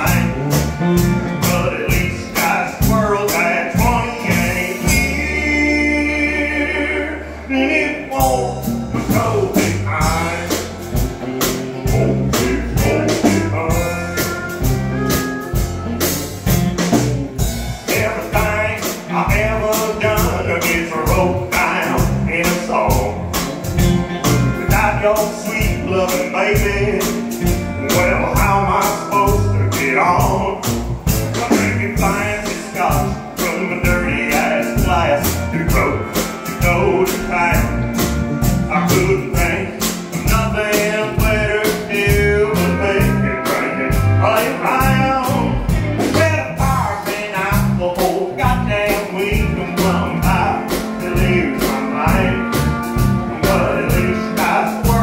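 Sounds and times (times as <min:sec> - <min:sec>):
steady drum beat: 0:00.0 - 0:06.2, 0:08.2 - 0:55.0
country band playing: 0:00.0 - 0:55.0.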